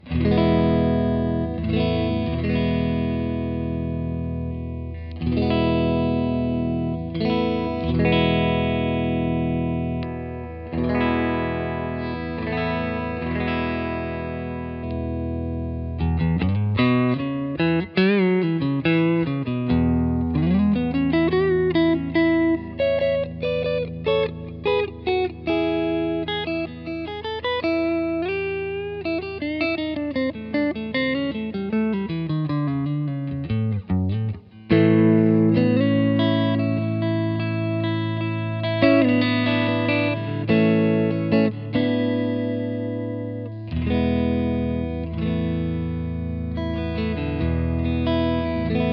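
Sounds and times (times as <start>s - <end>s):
clean electric guitar: 0.0s - 48.9s.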